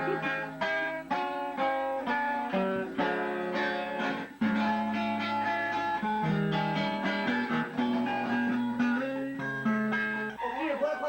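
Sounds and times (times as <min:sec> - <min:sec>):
plucked guitar notes and chords: 0:00.0 - 0:11.0.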